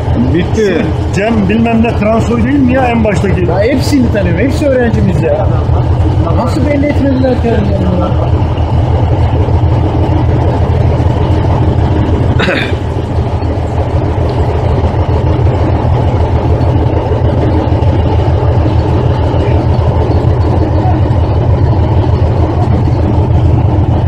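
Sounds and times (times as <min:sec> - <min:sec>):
tank engine idling: 0:00.0 - 0:24.0.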